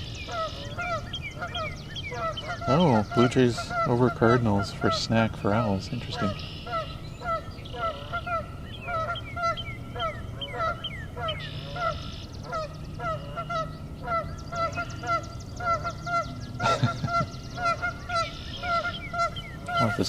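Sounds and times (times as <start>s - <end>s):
bird trilling: 0.0s - 20.0s
geese honking: 0.0s - 20.0s.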